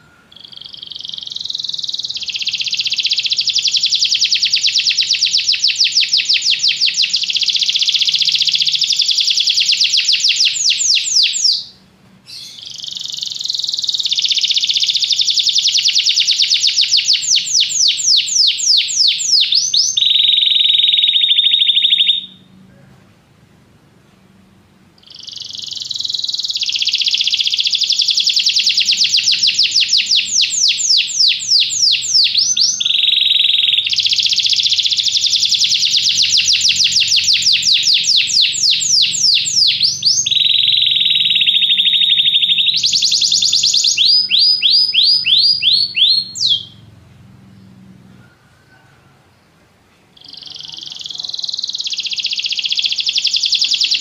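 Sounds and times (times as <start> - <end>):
canary singing: 0.0 - 22.5, 25.0 - 49.5, 50.1 - 54.0.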